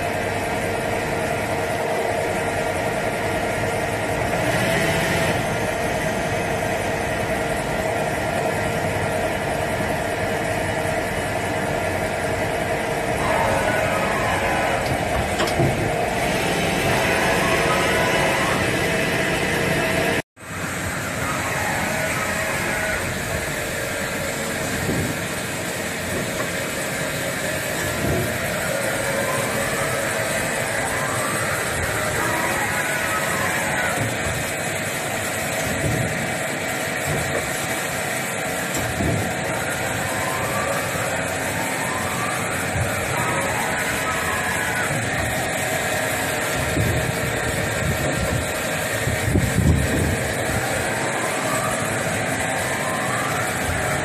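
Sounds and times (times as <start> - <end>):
lathe running: 0.0 - 54.0.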